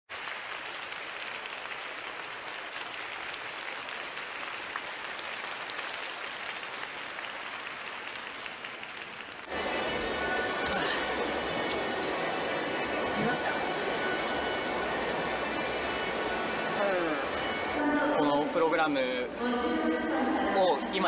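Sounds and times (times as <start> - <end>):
audience applauding: 0.1 - 17.8.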